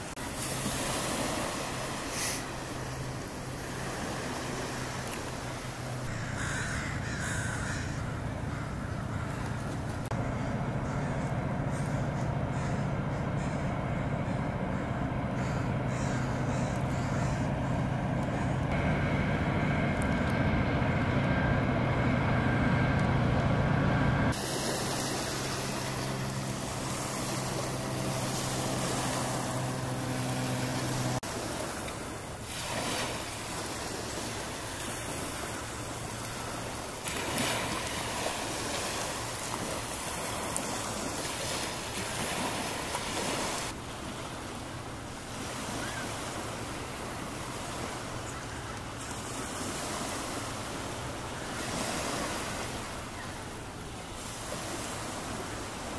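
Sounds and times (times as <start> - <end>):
locomotive engine drone: 0.0 - 55.9
wind and water rushing: 0.0 - 55.9.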